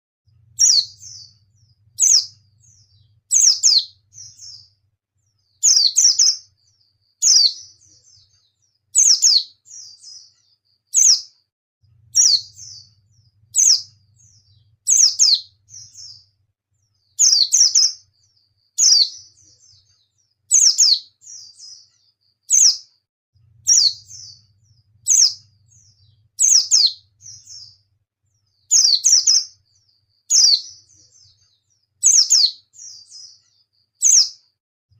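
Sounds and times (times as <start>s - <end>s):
bird twittering: 0.5s - 11.3s, 12.1s - 22.9s, 23.6s - 34.4s.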